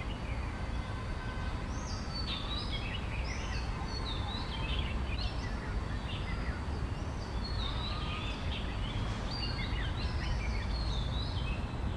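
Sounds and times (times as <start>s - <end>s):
birds singing and chirping: 1.6s - 11.9s.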